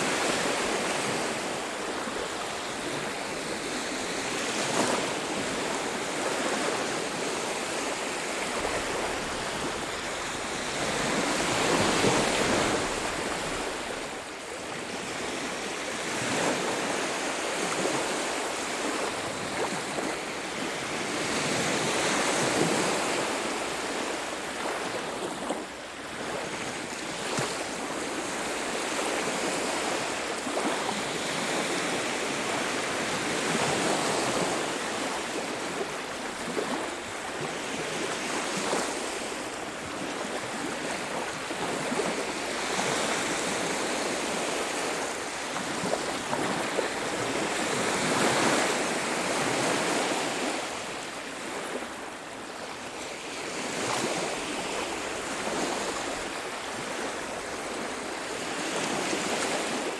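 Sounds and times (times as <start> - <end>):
ocean surf breaking on a beach: 0.0 - 59.9.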